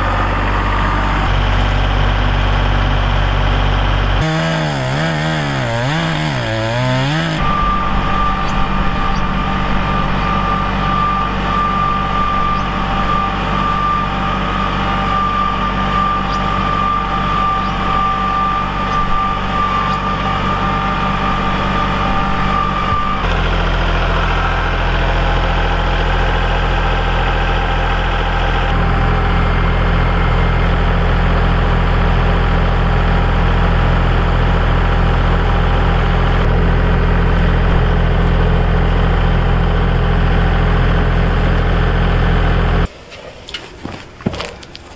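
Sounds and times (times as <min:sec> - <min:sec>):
engine-driven machinery running: 0:00.0 - 0:42.9
high machine whine: 0:00.0 - 0:42.9.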